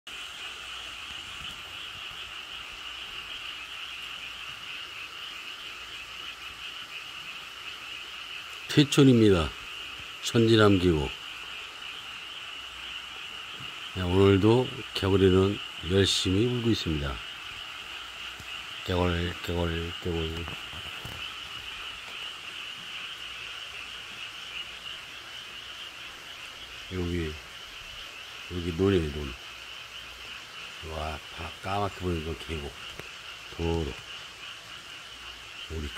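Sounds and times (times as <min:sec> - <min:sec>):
chorus of frogs croaking: 0:00.1 - 0:35.9.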